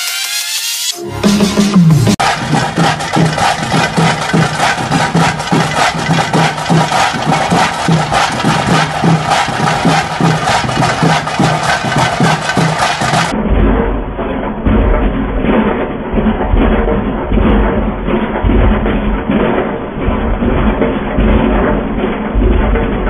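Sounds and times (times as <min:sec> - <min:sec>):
drums beating fast rhythm: 0:00.0 - 0:23.0.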